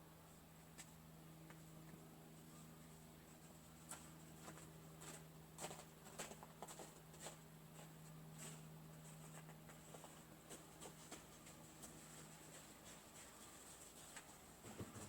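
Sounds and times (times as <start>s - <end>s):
faint steady hum: 0.0s - 15.0s
faint ticks and scratches: 0.3s - 15.0s.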